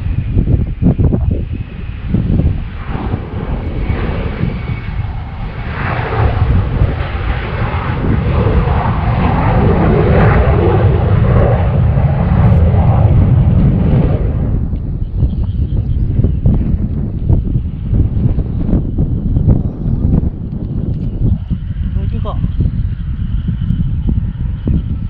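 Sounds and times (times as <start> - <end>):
jet engine roaring past: 0.0 - 25.0.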